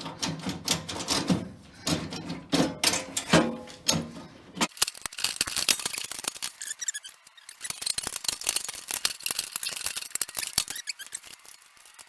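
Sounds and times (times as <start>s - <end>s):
metal parts clicking and clinking: 0.0s - 12.0s.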